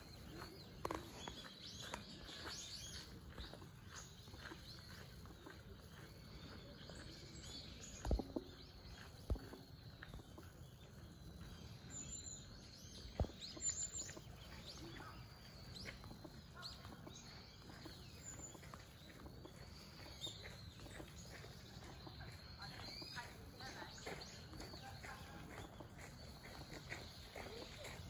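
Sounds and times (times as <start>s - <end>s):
birds chirping faintly: 0.0s - 28.0s.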